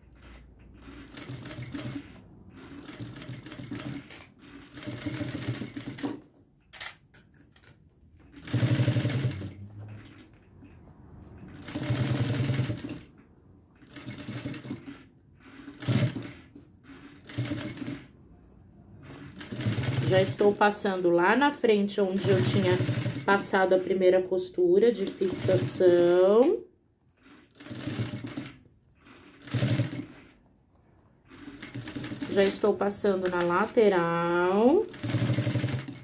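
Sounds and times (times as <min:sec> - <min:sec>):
sewing machine stitching: 0:00.0 - 0:36.0.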